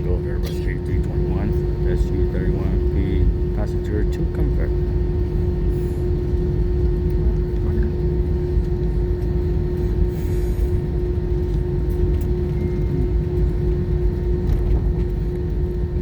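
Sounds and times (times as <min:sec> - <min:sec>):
constant cabin hum: 0:00.0 - 0:16.0
jet engines idling low rumble: 0:00.0 - 0:16.0.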